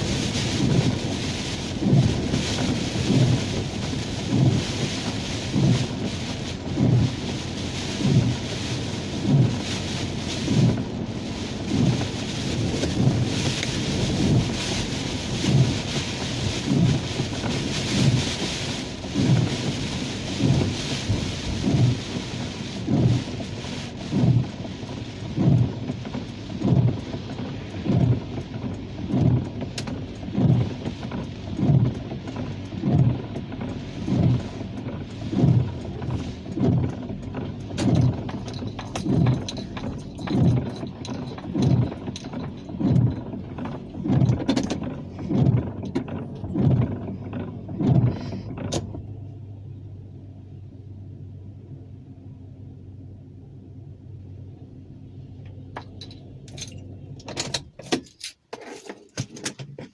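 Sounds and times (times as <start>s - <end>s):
windshield wipers thumping: 0.0s - 49.3s, 55.4s - 59.9s
rain hissing on car: 0.0s - 57.9s.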